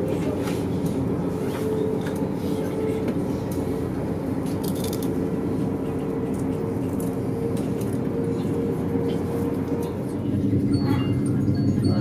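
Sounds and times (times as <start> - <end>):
train running inside carriage: 0.0 - 12.0.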